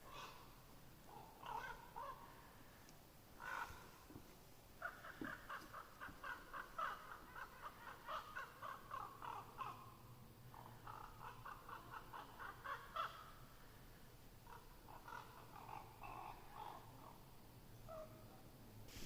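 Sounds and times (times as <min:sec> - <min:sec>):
crow cawing: 0:00.1 - 0:02.7, 0:03.4 - 0:10.0, 0:10.6 - 0:13.8, 0:14.4 - 0:17.2.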